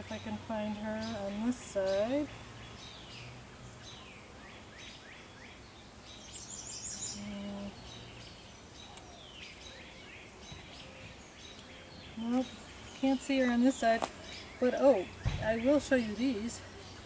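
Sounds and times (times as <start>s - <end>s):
birds chirping: 0.0s - 17.0s
faint background noise: 0.0s - 17.0s.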